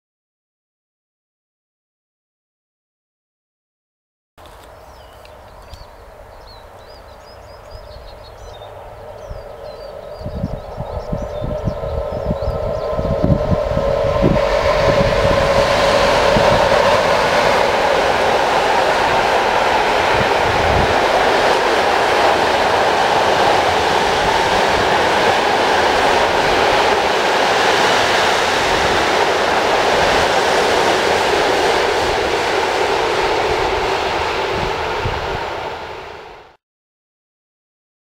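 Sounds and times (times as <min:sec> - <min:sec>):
train wheels rolling on track: 0:04.4 - 0:36.5.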